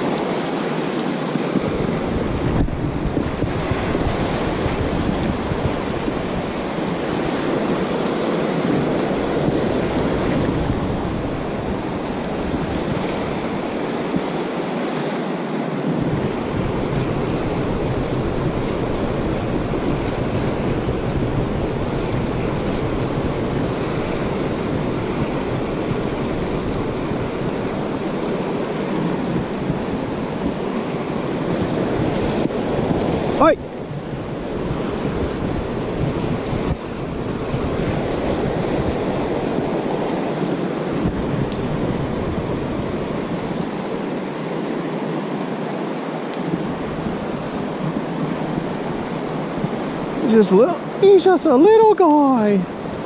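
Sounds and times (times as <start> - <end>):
wind rumble on microphone: 0.0 - 51.2
river rushing over rocks: 0.0 - 53.0.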